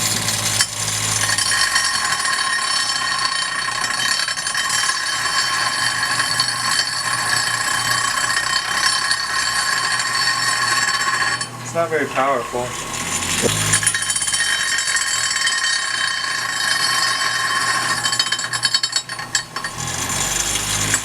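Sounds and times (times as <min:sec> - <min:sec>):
angle grinder grinding metal: 0:00.0 - 0:21.0.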